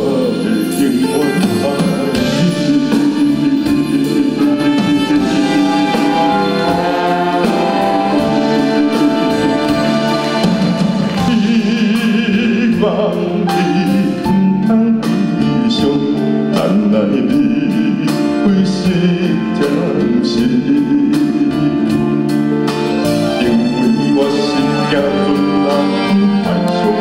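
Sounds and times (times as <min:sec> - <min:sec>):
man singing with vibrato: 0:00.0 - 0:22.5, 0:23.1 - 0:27.0
live band playing: 0:00.0 - 0:27.0
steady drum beat: 0:00.0 - 0:27.0.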